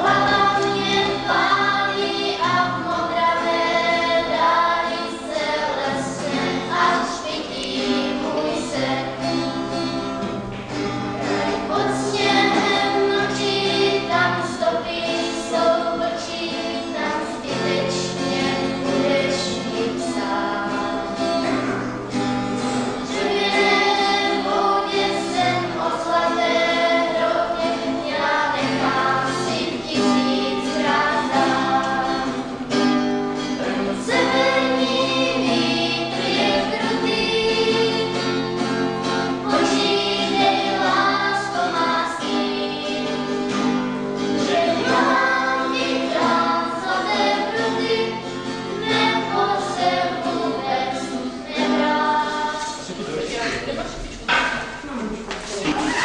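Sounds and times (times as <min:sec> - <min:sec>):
girls singing together: 0:00.0 - 0:54.8
strummed acoustic guitar: 0:00.0 - 0:56.0.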